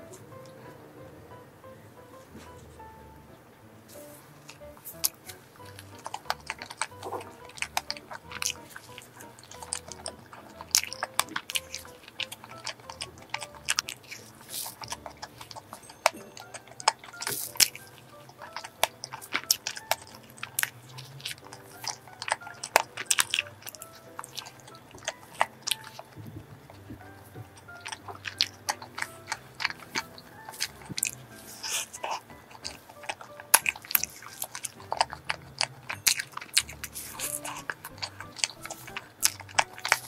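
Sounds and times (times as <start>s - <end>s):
soft background music: 0.0s - 40.0s
wet chewing and mouth clicks: 3.9s - 40.0s.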